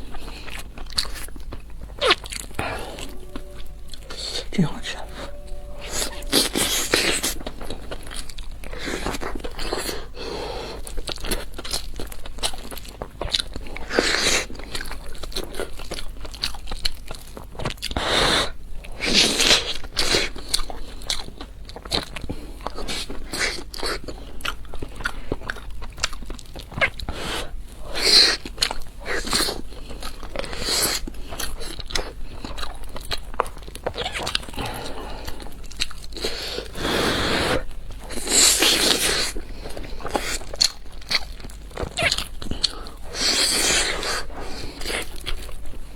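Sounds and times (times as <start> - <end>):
crunchy bites and chewing: 6.4 - 18.1, 18.9 - 45.9.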